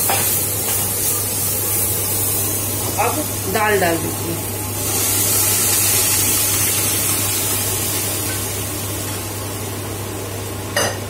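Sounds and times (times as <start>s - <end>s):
food sizzling and hissing in pan: 0.0s - 10.7s.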